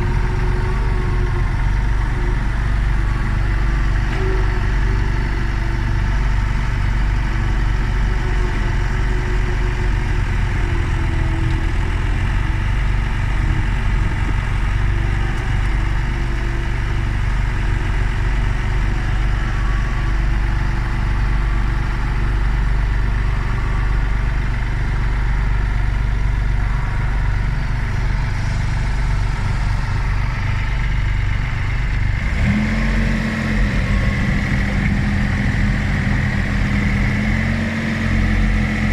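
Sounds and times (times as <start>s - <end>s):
diesel engine running and revving: 0.0s - 38.9s.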